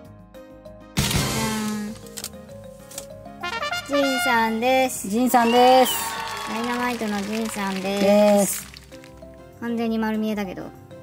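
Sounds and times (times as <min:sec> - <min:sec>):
light background music: 0:00.0 - 0:11.0.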